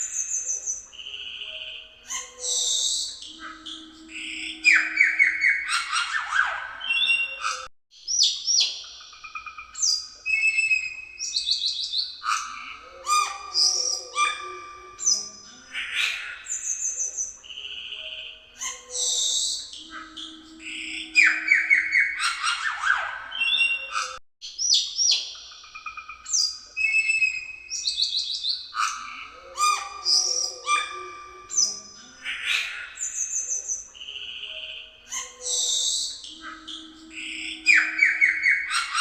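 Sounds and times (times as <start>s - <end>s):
bird singing whistles and trills: 0.0s - 39.0s.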